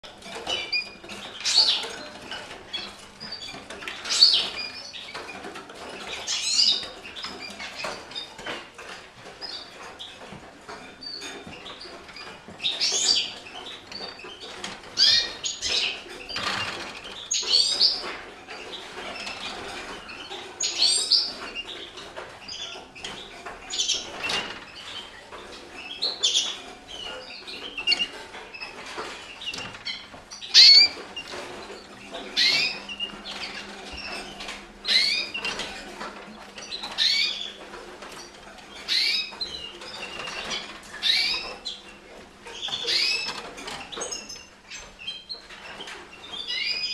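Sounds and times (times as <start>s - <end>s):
canaries chirping: 0.0s - 46.9s.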